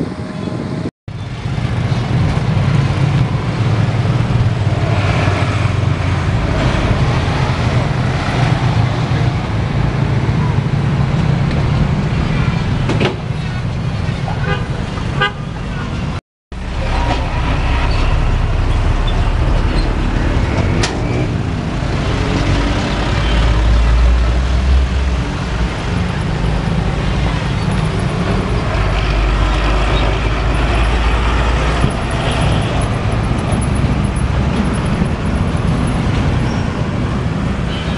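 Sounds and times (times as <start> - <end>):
diesel trucks passing: 0.0 - 37.9
motorcycles passing: 1.2 - 37.9.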